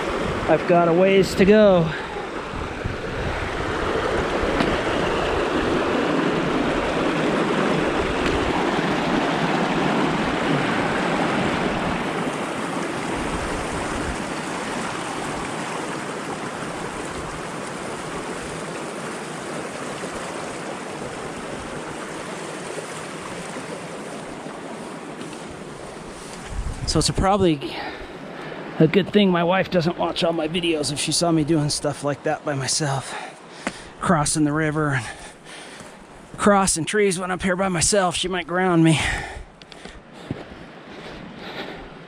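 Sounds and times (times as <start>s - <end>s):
creek rushing: 0.0s - 42.0s.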